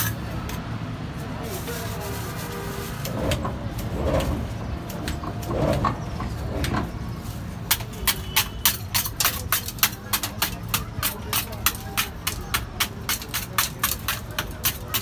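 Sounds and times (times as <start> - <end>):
scraping on frozen metal drum: 2.3 - 15.0.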